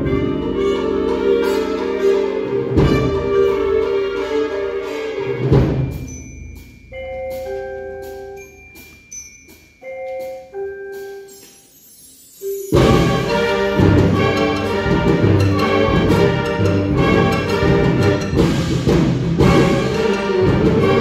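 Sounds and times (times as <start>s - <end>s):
mallet percussion notes: 0.0s - 21.0s.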